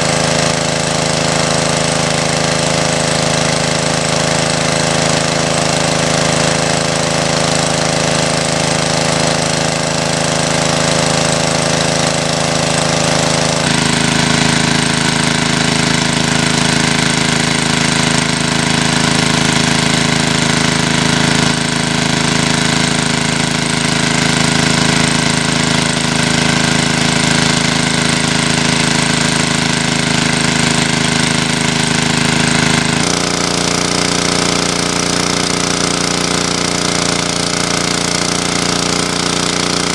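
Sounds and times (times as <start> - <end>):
small engine chugging: 0.0 - 39.9.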